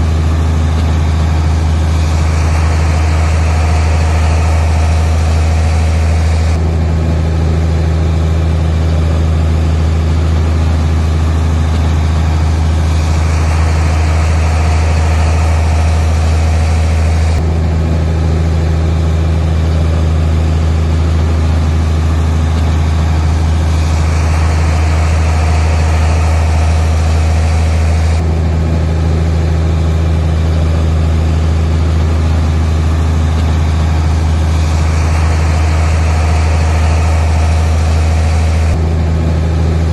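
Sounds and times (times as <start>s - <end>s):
heavy construction machinery running: 0.0s - 39.9s.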